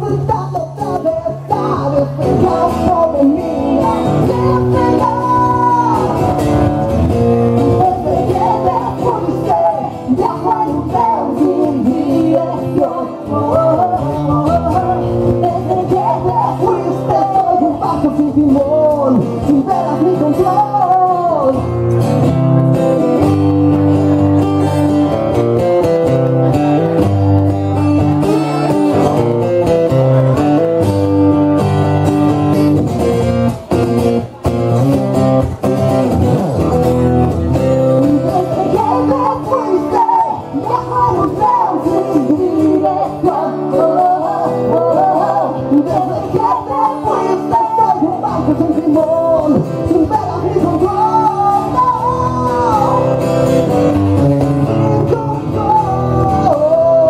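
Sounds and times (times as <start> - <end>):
person singing: 0.0 - 22.1, 27.7 - 31.2, 36.3 - 57.0
acoustic guitar strumming: 0.0 - 57.0.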